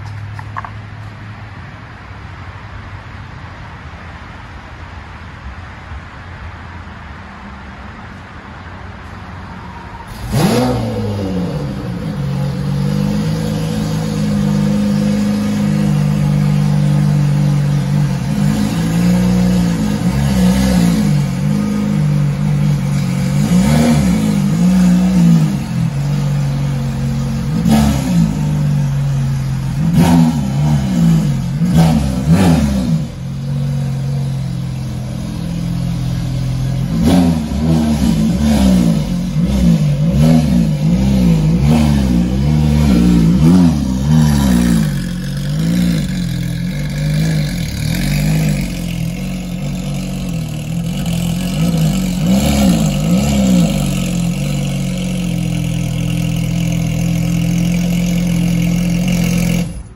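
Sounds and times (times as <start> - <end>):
sports car engine starting and revving: 10.0 - 59.9.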